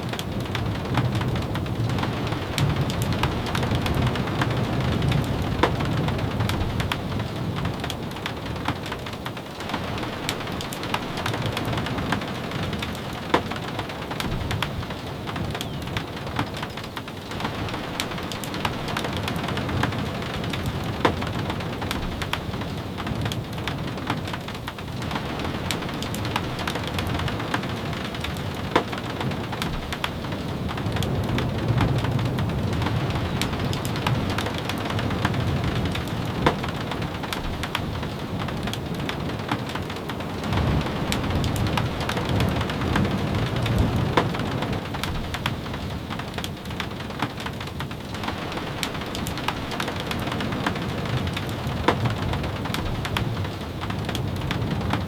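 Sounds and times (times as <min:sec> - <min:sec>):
rain on roof and windows: 0:00.0 - 0:55.0.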